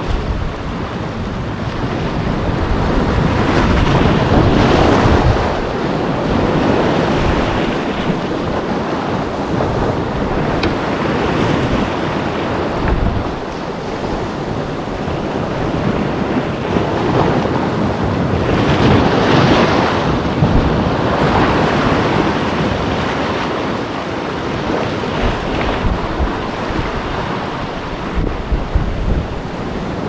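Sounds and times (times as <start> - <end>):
ocean waves washing in: 0.0 - 30.0
wind buffeting microphone: 0.0 - 30.0.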